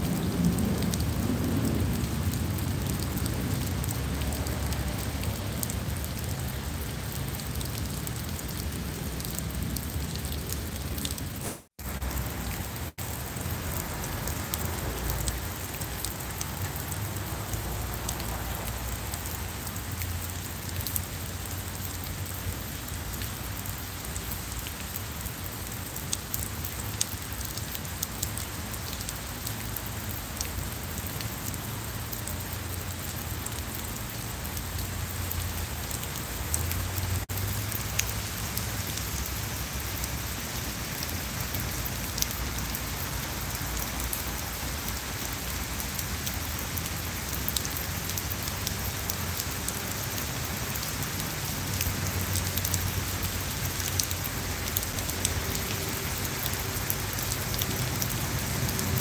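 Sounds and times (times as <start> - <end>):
raindrops ticking: 0.0 - 59.0
steady rain hiss: 0.0 - 59.0.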